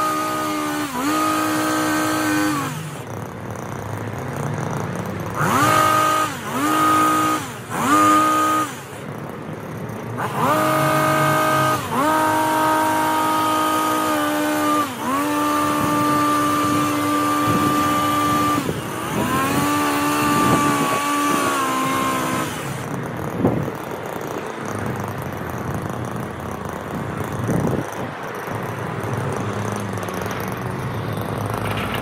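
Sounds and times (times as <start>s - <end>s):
petrol hedge trimmer running: 0.0s - 32.0s.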